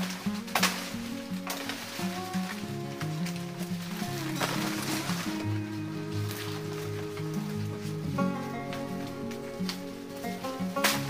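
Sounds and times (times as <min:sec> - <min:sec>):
low held music notes: 0:00.0 - 0:11.0.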